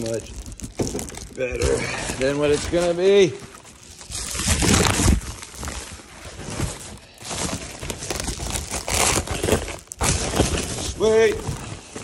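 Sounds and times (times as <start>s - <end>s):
packing wrap crinkling: 0.0s - 12.0s.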